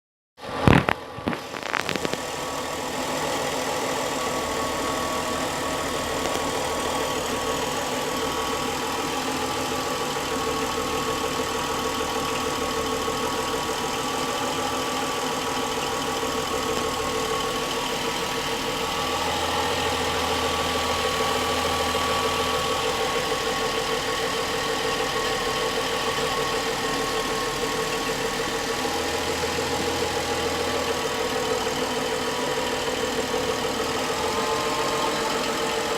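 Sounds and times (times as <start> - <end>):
car engine idling: 0.5 - 35.9
engine knocking: 0.8 - 35.9.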